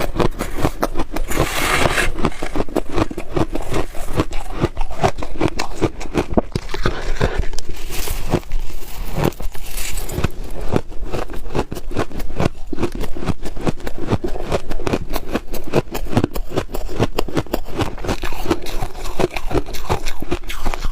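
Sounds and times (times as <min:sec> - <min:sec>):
freezer frost crunching: 0:00.0 - 0:20.9.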